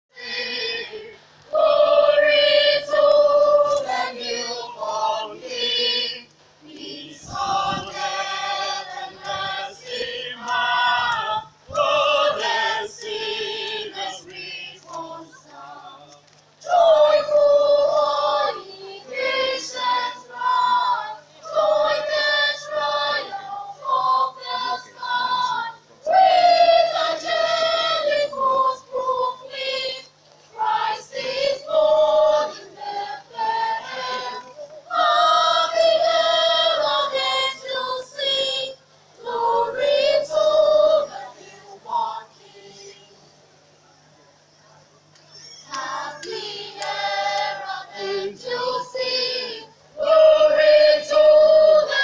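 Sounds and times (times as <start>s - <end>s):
choir singing unaccompanied: 0.1s - 43.4s, 45.6s - 52.0s
faint low hum: 0.1s - 52.0s.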